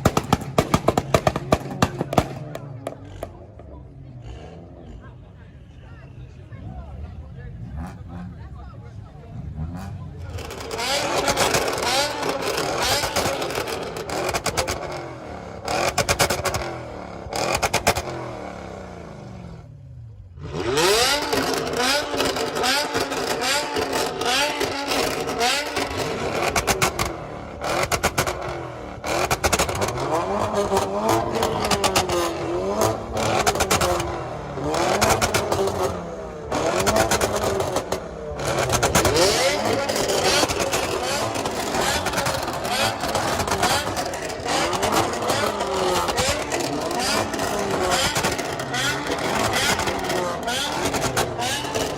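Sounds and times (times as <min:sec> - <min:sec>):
exhaust cracks: 0:00.0 - 0:04.2, 0:09.6 - 0:19.2, 0:20.4 - 0:51.9
car engines revving: 0:00.0 - 0:51.9
car pulling away: 0:07.6 - 0:51.9.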